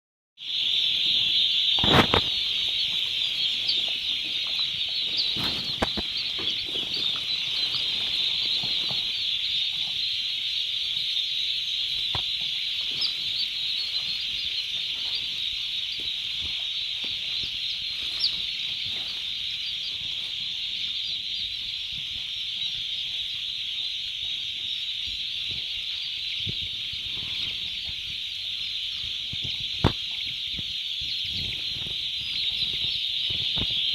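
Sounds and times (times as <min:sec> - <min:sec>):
turkey chicks peeping: 0:00.4 - 0:33.9.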